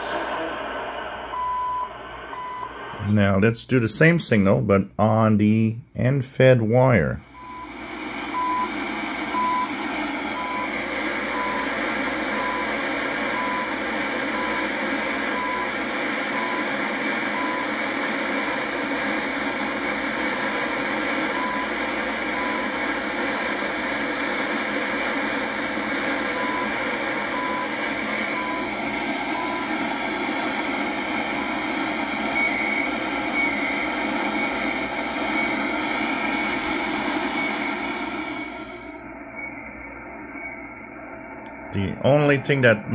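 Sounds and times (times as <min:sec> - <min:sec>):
radio static: 0:00.0 - 0:42.9.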